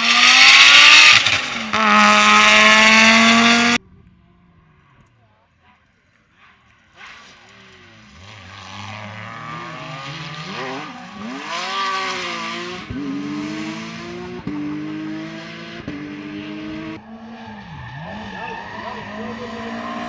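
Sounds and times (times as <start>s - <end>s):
car rushing past: 0.0s - 3.8s, 7.0s - 20.0s
rally car engine accelerating: 0.0s - 3.8s, 6.8s - 20.0s.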